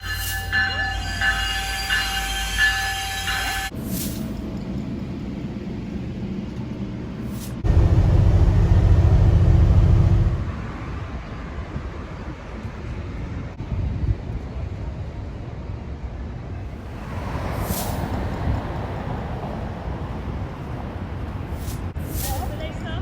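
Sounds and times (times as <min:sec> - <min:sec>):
deep train rumble: 0:00.0 - 0:23.0
train running rumble: 0:00.0 - 0:23.0.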